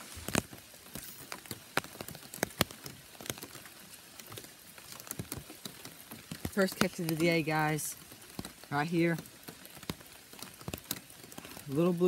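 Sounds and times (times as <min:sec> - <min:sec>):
rain drops ticking: 0:00.0 - 0:12.0
rain hiss: 0:00.0 - 0:12.0.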